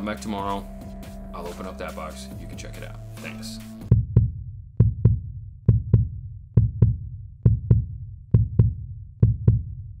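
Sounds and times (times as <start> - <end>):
heartbeat-style double thumps: 0.4 - 10.0.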